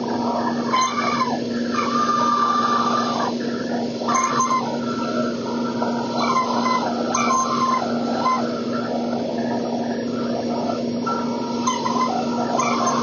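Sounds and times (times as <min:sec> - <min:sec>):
bandsaw motor hum: 0:00.0 - 0:13.0
faint wavering squeal: 0:00.0 - 0:13.0.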